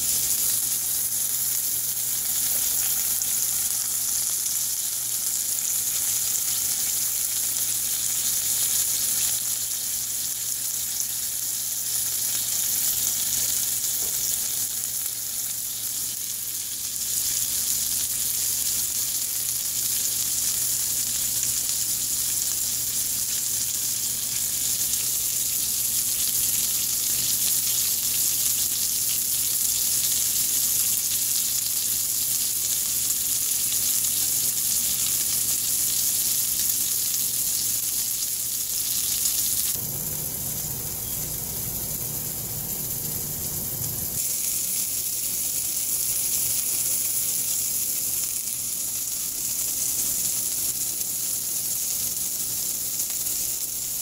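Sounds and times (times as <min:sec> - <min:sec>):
sandwich sizzling in a skillet: 0:00.0 - 0:54.0.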